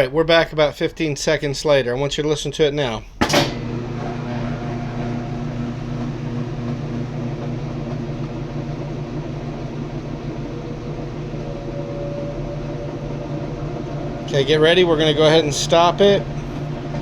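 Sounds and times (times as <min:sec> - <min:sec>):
washing machine motor humming: 0:03.2 - 0:17.0.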